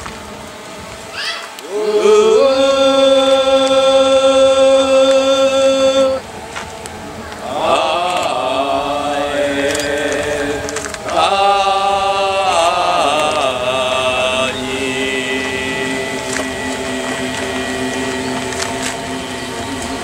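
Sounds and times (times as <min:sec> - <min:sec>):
voices chanting: 0:01.1 - 0:20.0.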